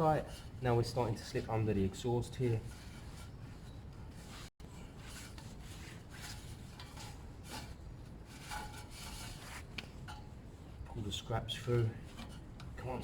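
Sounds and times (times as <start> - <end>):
wrap rubbing against exhaust pipe: 0.0 - 10.8.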